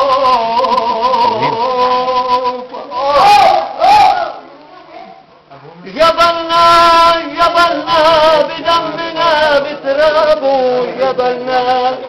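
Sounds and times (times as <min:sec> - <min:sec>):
man singing folk song: 0:00.0 - 0:03.6, 0:05.8 - 0:12.0.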